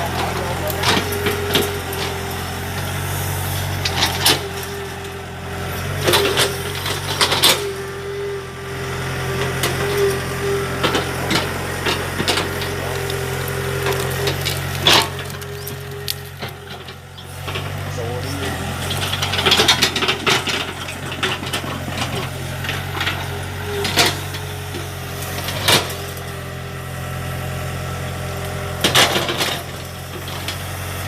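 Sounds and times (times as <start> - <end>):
excavator engine whining: 0.0 - 31.0.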